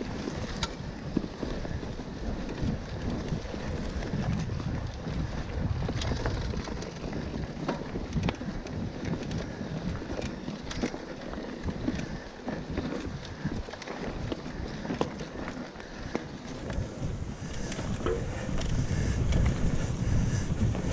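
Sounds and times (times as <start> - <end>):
bike clicks and rattles: 0.0 - 20.9
rolling bike tyres: 0.0 - 20.9
wind rumbling on microphone: 0.0 - 20.9.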